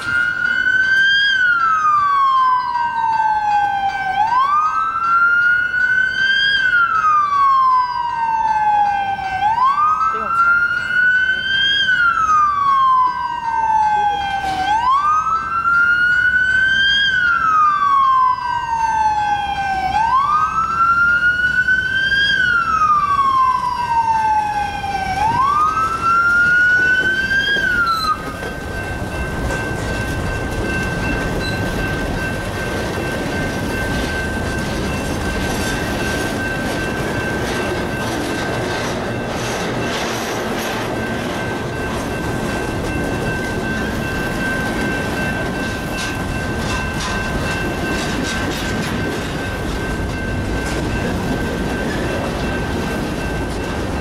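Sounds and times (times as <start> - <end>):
emergency siren wailing: 0.0 - 54.0
freight train wheels on rail: 0.0 - 54.0
steady high tone: 0.0 - 54.0.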